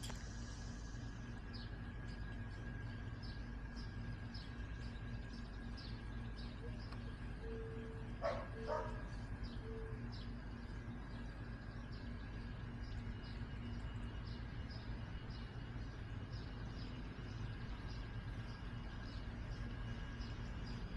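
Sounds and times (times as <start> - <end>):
low background hum: 0.0 - 20.9.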